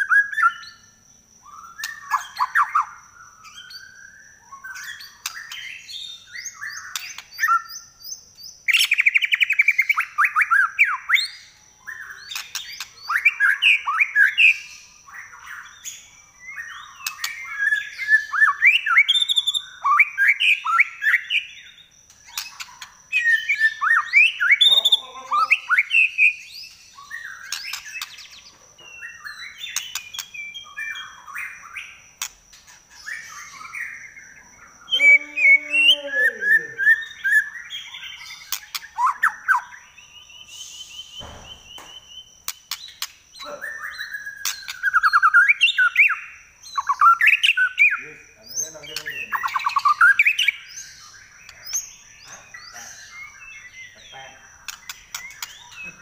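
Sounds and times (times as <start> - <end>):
bird singing whistled phrases and trills: 0.0 - 56.0.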